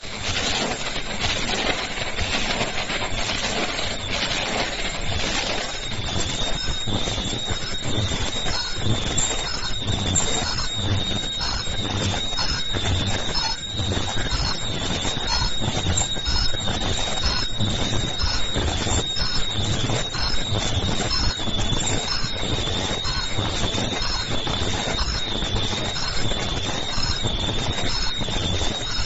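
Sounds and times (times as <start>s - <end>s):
steady high whine: 0.0s - 29.0s.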